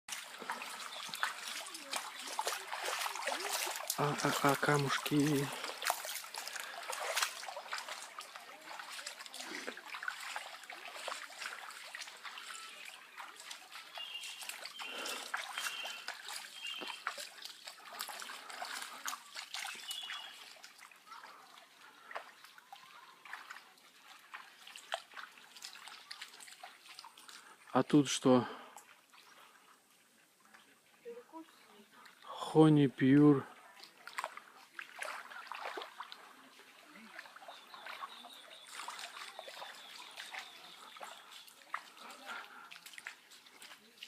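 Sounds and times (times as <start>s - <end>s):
small water splashes: 0.1s - 44.0s
stream water trickling: 0.1s - 44.0s.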